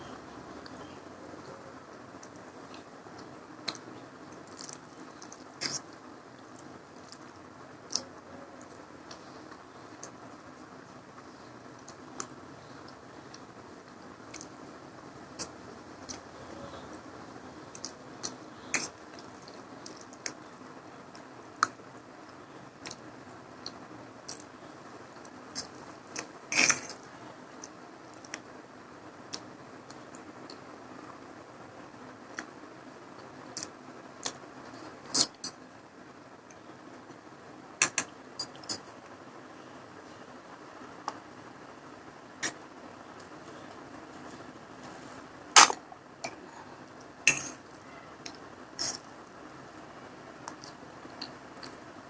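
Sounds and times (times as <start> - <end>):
steady low hiss: 0.0 - 52.0.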